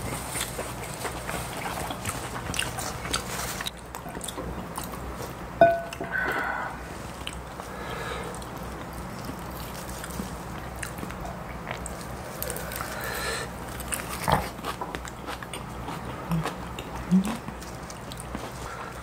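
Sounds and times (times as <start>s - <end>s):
close-miked chewing: 0.0s - 5.4s, 7.0s - 19.0s.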